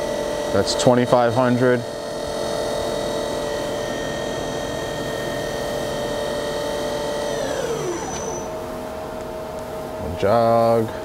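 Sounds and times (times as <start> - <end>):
lathe spindle whine: 0.0 - 9.2
machine hum: 0.0 - 11.0.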